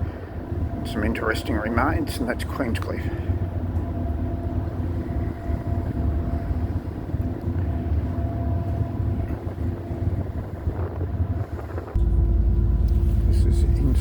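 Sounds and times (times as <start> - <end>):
diesel engines rumbling: 0.0 - 14.0
steady humming tones: 0.0 - 14.0.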